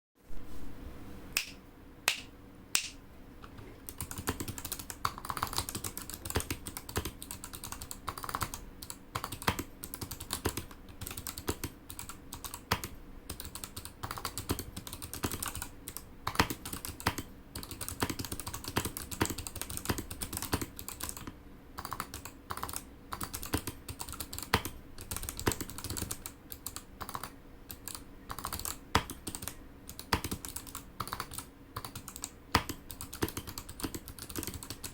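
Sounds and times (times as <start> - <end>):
clicky mechanical keyboard typing: 3.9 - 34.9.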